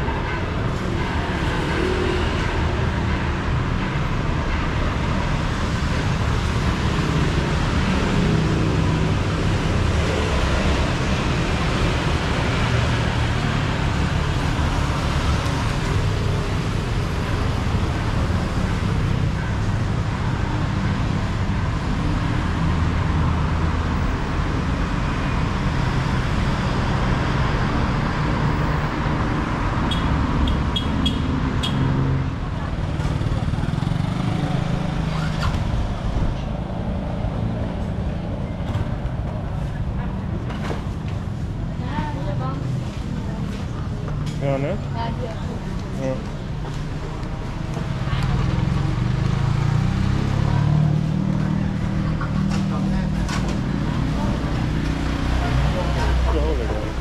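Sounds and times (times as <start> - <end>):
motor vehicle traffic rumble: 0.0 - 57.0.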